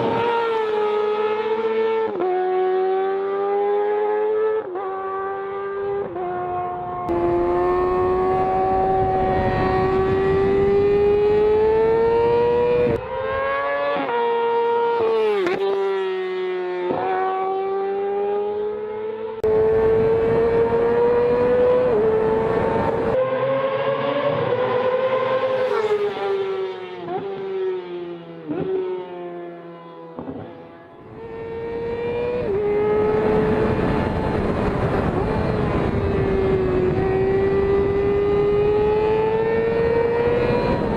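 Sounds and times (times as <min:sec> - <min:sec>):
motorcycle engine revving high: 0:00.0 - 0:29.5, 0:30.2 - 0:40.9.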